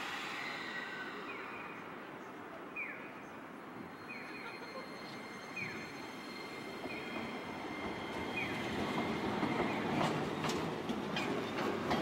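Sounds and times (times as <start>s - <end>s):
tram rolling past: 0.0s - 12.0s.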